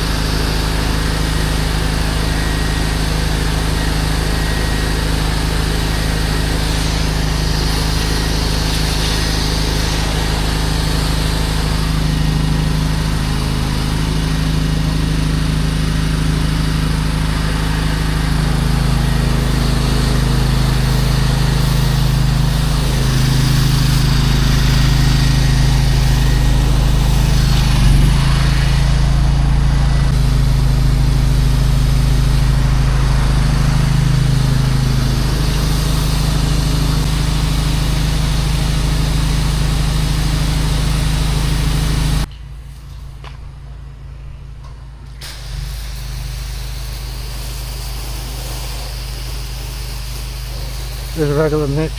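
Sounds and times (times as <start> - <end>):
pressure washer engine running: 0.0 - 51.9.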